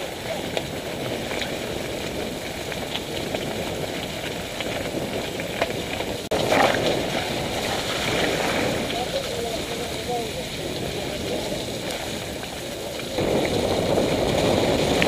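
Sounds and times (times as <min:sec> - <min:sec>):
bike rattles and clicks: 0:00.0 - 0:15.0
mountain bike tyre noise on dirt: 0:00.0 - 0:15.0.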